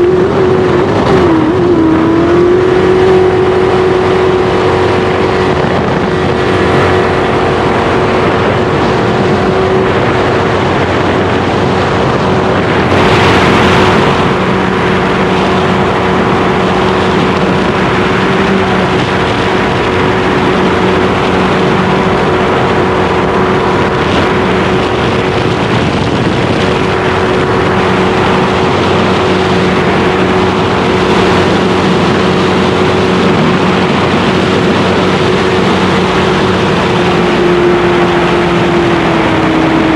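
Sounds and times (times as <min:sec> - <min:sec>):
jet boat engine running hard: 0:00.0 - 0:39.9
rush of wind and water: 0:00.0 - 0:39.9.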